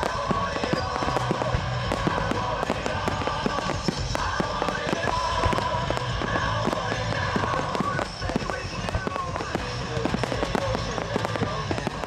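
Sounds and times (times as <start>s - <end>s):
fireworks bangs and crackles: 0.0s - 12.0s
music: 0.0s - 12.0s.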